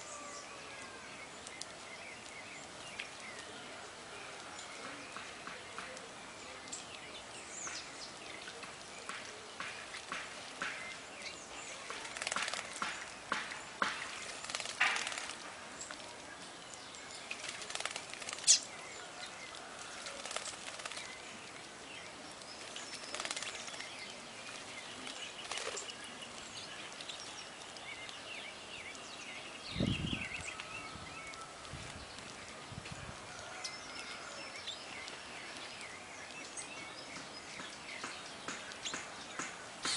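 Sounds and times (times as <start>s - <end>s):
outdoor background noise: 0.0s - 39.9s
small birds chirping: 0.0s - 39.9s.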